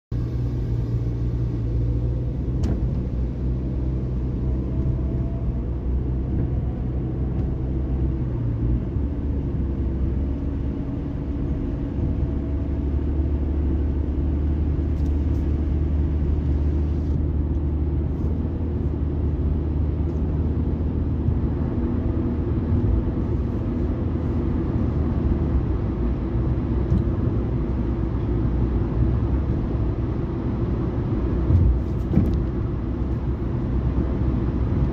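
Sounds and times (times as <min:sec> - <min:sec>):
road noise inside car: 0:00.1 - 0:34.9.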